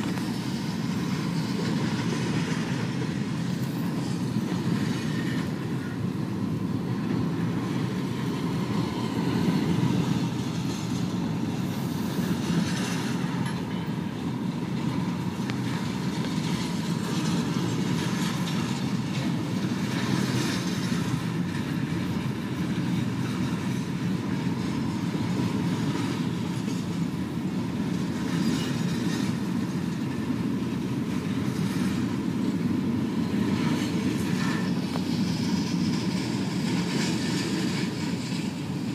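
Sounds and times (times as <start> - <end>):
train cars rolling past: 0.0 - 38.9
wheels clicking over rail joints: 0.0 - 38.9.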